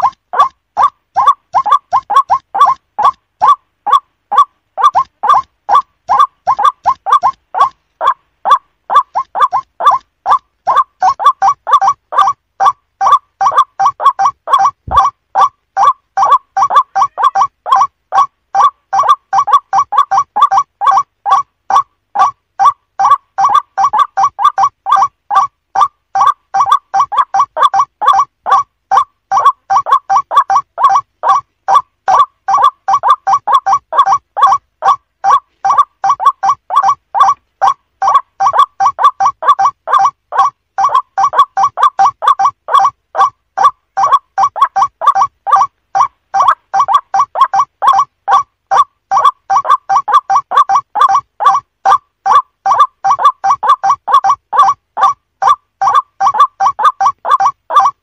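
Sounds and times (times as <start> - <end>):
bird calling harsh notes: 0.0 - 58.0.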